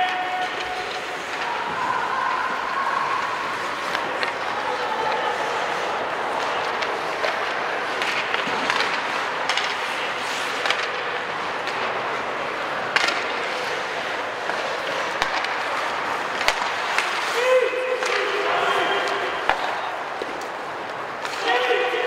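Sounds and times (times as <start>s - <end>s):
hockey sticks and puck clacking: 0.0s - 22.0s
skates scraping on ice: 0.0s - 22.0s.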